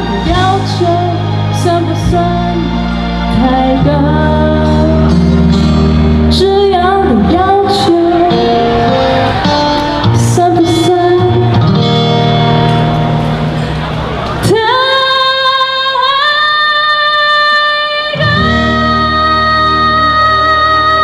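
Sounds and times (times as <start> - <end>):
woman singing with vibrato: 0.0 - 5.4, 6.2 - 11.9, 14.4 - 21.0
instrumental backing music: 0.0 - 21.0.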